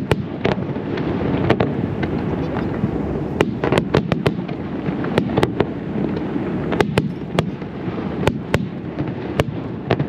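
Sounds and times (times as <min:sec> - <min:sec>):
fireworks bangs: 0:00.0 - 0:10.0
low rumble and crackle of bursts: 0:00.0 - 0:10.0.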